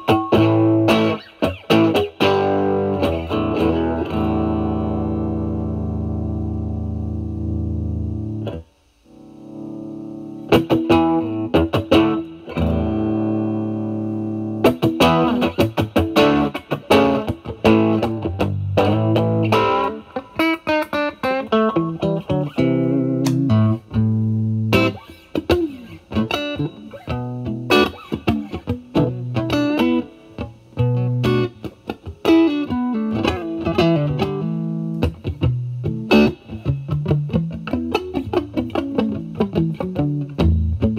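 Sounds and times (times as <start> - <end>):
overdriven electric guitar: 0.0 - 40.9.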